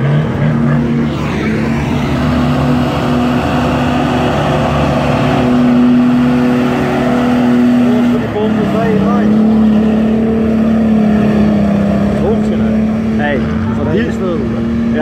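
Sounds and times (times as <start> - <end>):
engine running hard: 0.0 - 15.0.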